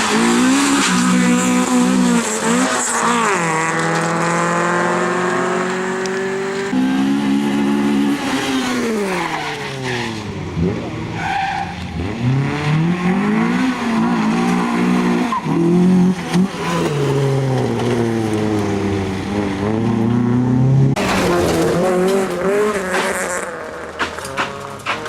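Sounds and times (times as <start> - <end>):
rally car engine revving hard: 0.0 - 11.2, 11.8 - 25.0.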